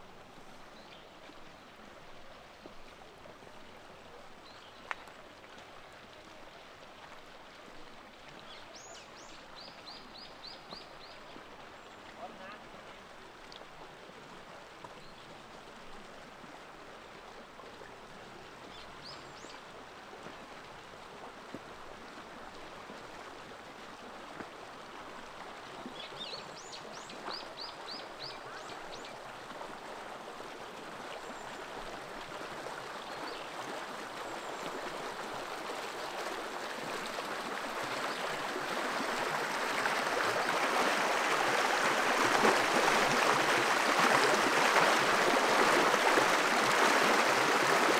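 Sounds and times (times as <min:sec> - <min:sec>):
stream water flowing: 0:00.0 - 0:47.9.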